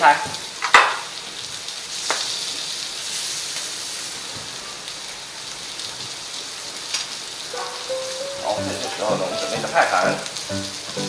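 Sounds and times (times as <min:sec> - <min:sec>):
meat sizzling in a hot pan: 0:00.0 - 0:11.0.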